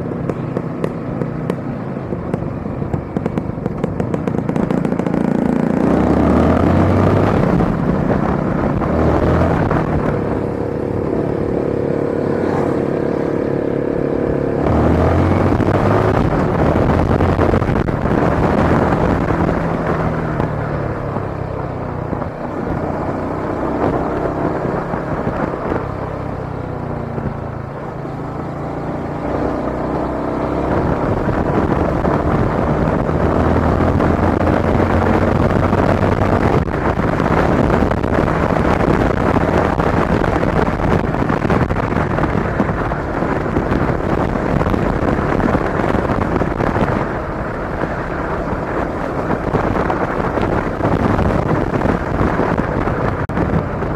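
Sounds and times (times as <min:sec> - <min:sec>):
motorcycle engine running: 0:00.0 - 0:53.9
road and traffic noise: 0:00.0 - 0:53.9.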